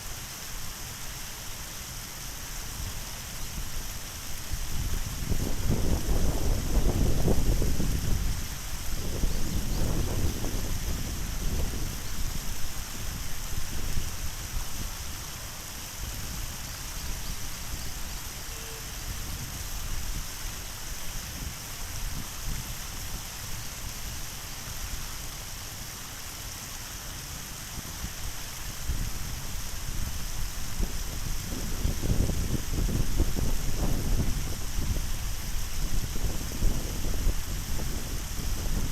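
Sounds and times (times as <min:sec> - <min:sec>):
water rushing over waterfall: 0:00.0 - 0:38.9
wind rumble on microphone: 0:02.7 - 0:24.2, 0:27.7 - 0:38.9.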